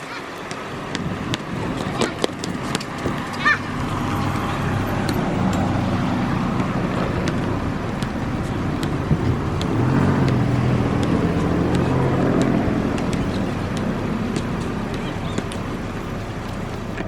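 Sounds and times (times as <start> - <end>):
vehicle engine rumble passing: 0.5 - 17.0.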